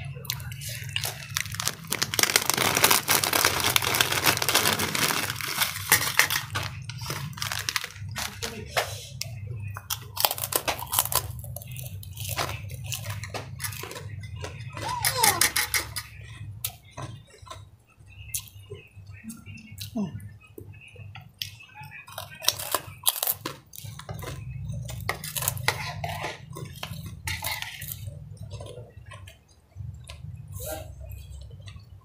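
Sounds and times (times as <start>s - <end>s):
crunchy crackers being chewed: 0.2s - 18.5s, 21.2s - 32.0s.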